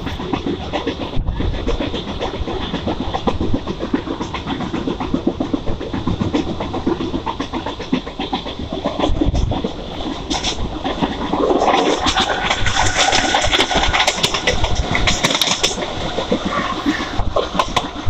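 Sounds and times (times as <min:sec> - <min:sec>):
train wheels clattering on rails: 0:00.0 - 0:18.0.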